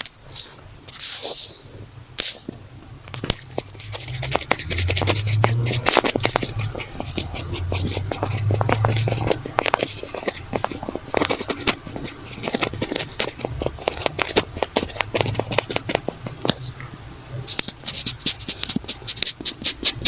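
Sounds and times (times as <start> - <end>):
notebook cover scratching: 0.0 - 16.8, 17.5 - 20.0
muffled rubbing on microphone: 0.0 - 20.0.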